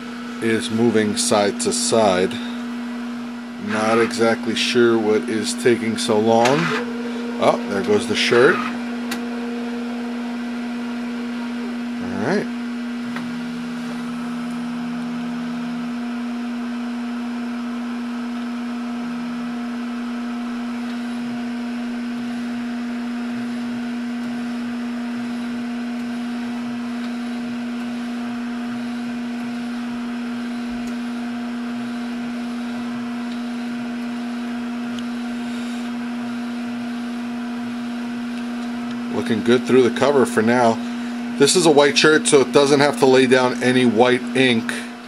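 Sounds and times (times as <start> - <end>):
printer machine hum: 0.0 - 17.8, 20.0 - 45.0.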